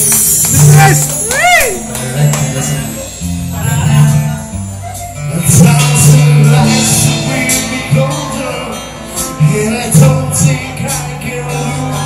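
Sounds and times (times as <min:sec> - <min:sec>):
drum kit with cymbal hits: 0:00.0 - 0:12.0
electric guitar: 0:00.0 - 0:12.0
man singing into microphone: 0:00.5 - 0:12.0.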